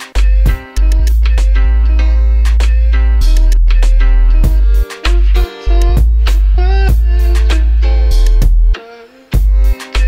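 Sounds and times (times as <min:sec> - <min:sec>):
lo-fi music with heavy bass: 0:00.0 - 0:10.0.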